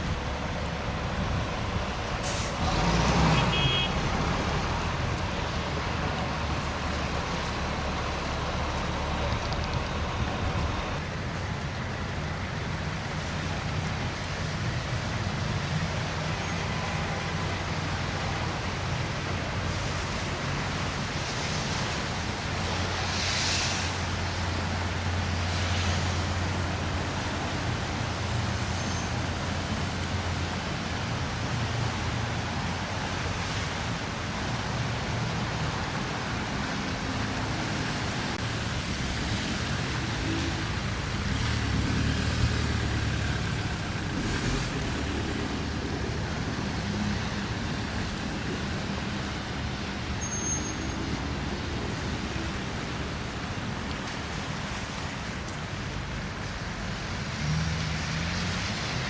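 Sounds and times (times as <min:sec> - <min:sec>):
road traffic rumble: 0:00.0 - 0:59.0
vehicles passing: 0:00.0 - 0:59.0.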